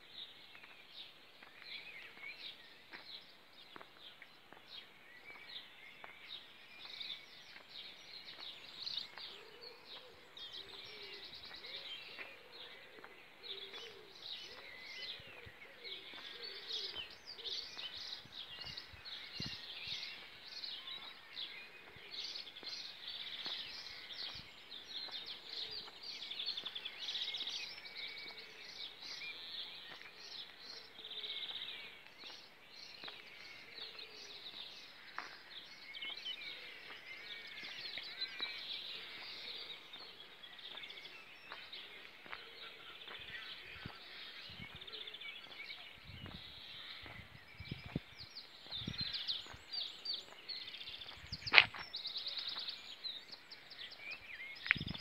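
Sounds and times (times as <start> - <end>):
songbirds chorus: 0.0 - 55.0.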